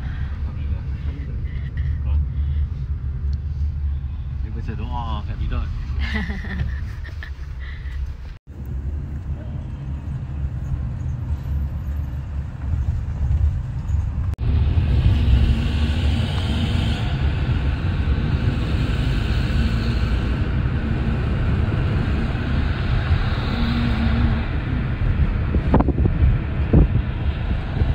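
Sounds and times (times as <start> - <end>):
car road noise rumble: 0.0 - 27.9.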